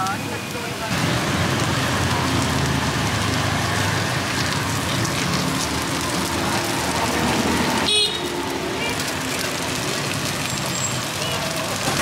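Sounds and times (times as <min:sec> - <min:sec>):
batter and oil sizzling: 0:00.0 - 0:12.0.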